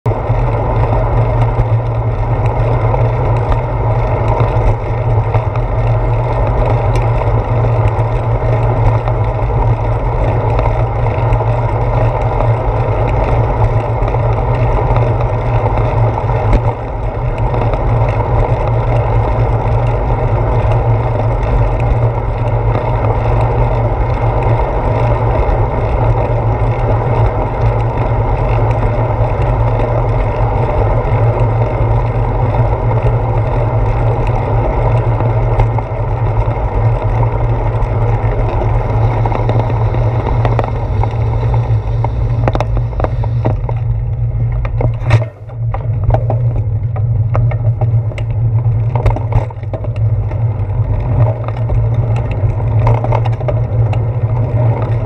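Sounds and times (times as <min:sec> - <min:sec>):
bicycle riding noise: 0:00.0 - 0:55.0
loud wind rumble: 0:00.0 - 0:55.0.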